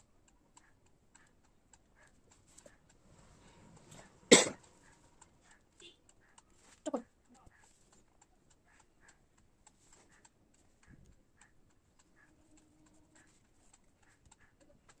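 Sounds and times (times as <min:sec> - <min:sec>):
faint regular ticks: 0:00.0 - 0:15.0.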